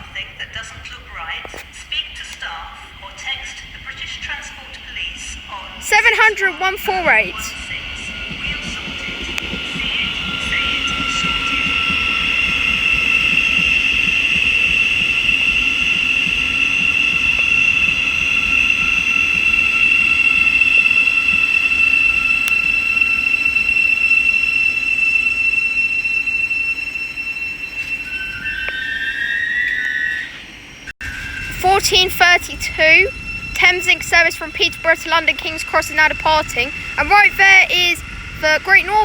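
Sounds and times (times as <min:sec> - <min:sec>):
train rumbling into platform: 0:00.0 - 0:39.0
high-pitched squeal: 0:02.4 - 0:39.0.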